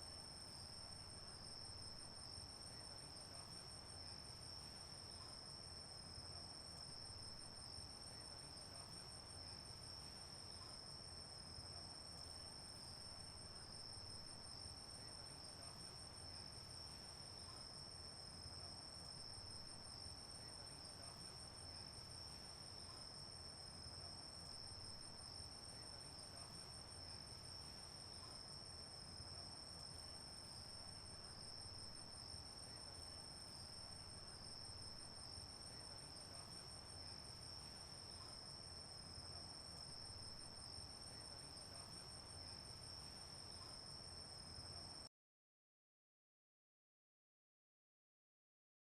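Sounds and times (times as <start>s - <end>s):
faint background hiss: 0.0s - 45.1s.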